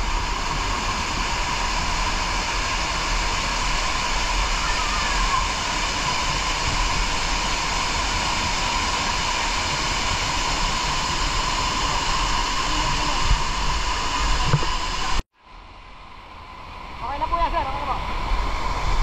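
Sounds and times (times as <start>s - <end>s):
waterfall rushing over rock: 0.0s - 15.2s, 16.6s - 19.0s.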